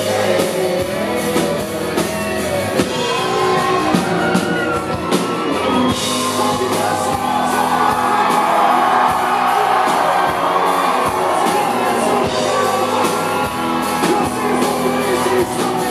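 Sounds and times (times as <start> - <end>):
man singing: 0.0 - 4.6, 5.4 - 15.9
live country band playing: 0.0 - 15.9.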